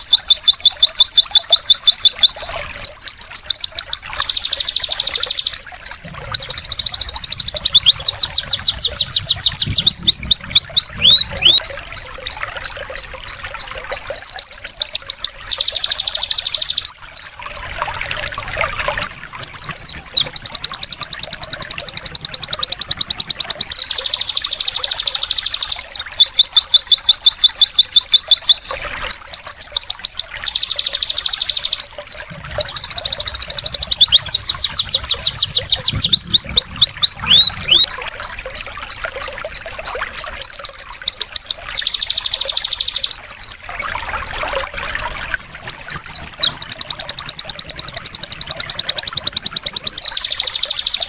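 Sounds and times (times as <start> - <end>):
bird song with fast trills: 0.0 - 51.0
trickling water: 0.0 - 51.0.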